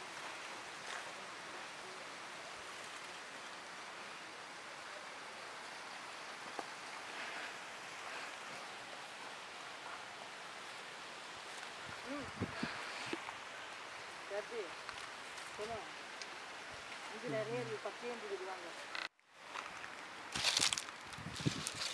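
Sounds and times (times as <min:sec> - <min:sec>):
outdoor background hiss: 0:00.0 - 0:21.9.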